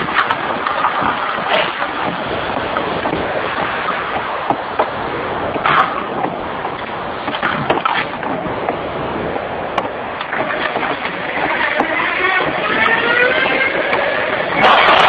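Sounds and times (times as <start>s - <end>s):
knocks and clicks: 0.0s - 8.8s, 9.7s - 15.0s.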